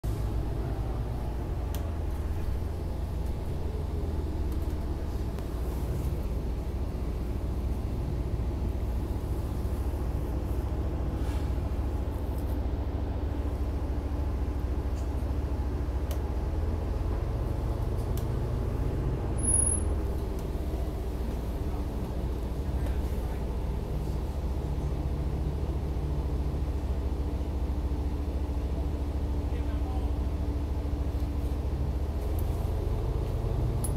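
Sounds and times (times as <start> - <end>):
train car rumbling on tracks: 0.0 - 33.9.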